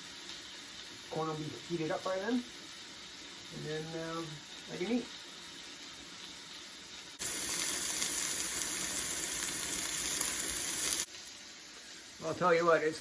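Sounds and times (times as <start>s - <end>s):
steaks sizzling: 0.0s - 13.0s.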